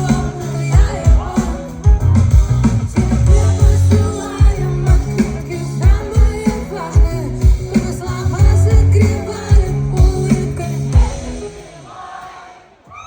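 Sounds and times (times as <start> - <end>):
live pop-rock band playing: 0.0 - 12.4
woman singing lead vocal: 0.0 - 13.0.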